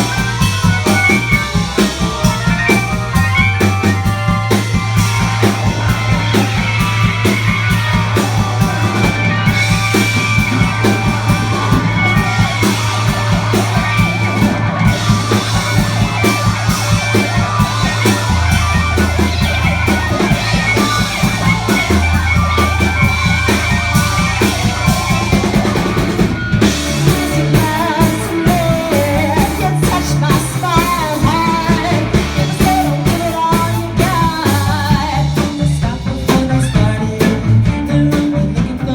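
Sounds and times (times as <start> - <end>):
bass guitar: 0.0 - 38.9
drum kit fast beat: 0.0 - 38.9
electric guitar: 0.0 - 38.9.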